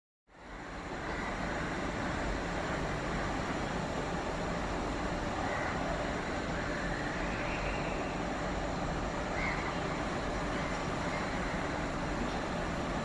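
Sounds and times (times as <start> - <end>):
distant traffic: 0.3 - 13.0
trains: 0.3 - 13.0.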